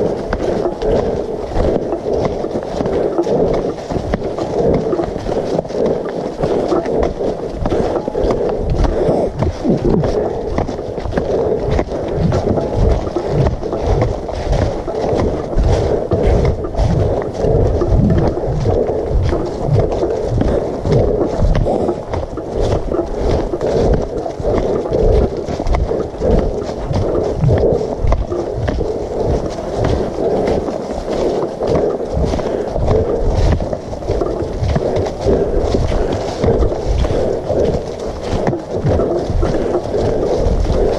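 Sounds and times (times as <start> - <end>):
footsteps through fallen leaves: 0.0 - 40.9.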